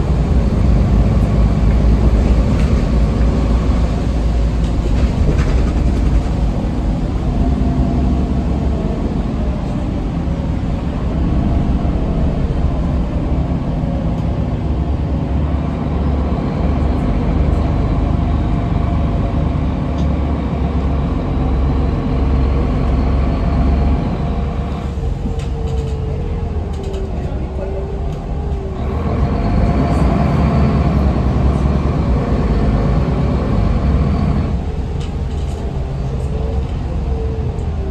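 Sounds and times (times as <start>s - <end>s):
bus engine rumbling: 0.0s - 37.9s.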